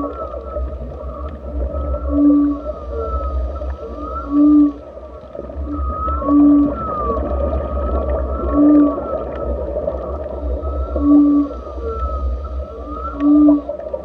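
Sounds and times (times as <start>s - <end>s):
high arching whale calls: 0.0s - 14.0s
low underwater rumble: 0.0s - 14.0s
low whale hoots: 0.0s - 14.0s.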